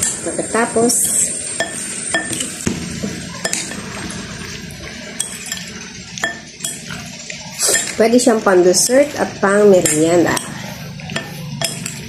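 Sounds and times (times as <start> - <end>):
utensils clinking: 0.0 - 12.0
utensils stirring salad in bowl: 0.0 - 12.0.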